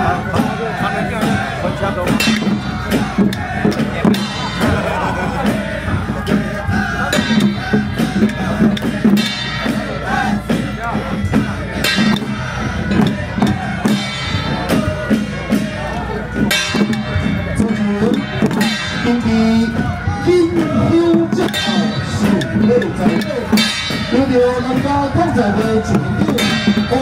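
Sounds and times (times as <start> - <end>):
loud music with singing and drums: 0.0 - 27.0.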